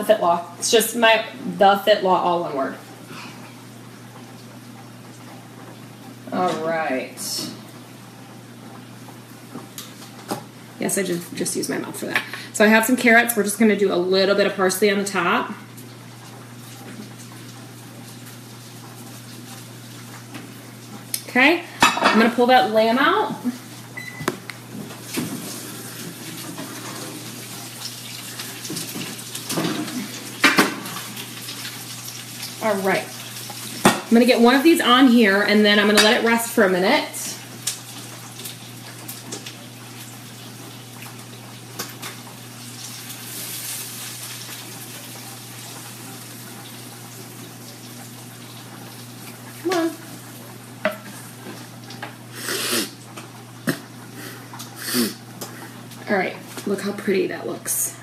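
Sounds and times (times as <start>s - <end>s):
roasting pan sizzling: 0.0s - 57.9s.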